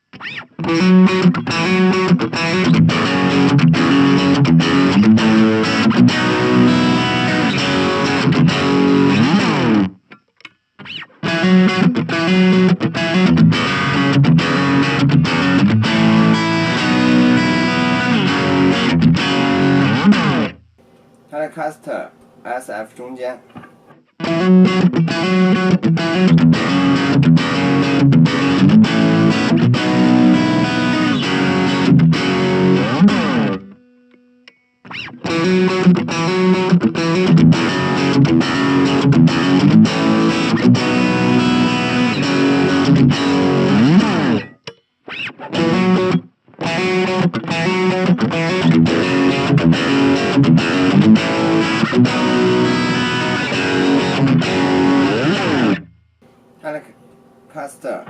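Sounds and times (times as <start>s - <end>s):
distorted electric guitar riffs: 0.0s - 10.2s, 10.8s - 58.0s.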